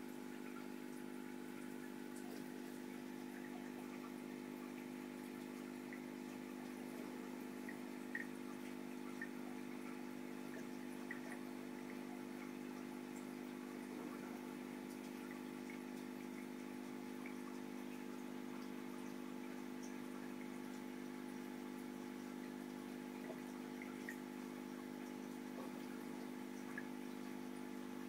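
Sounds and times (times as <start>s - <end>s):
aquarium equipment hum: 0.0s - 28.0s
water drips: 0.0s - 28.0s.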